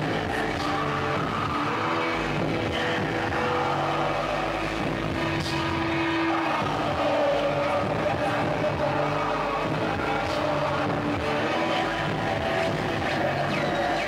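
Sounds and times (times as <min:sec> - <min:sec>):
harsh electronic noise music: 0:00.0 - 0:14.0.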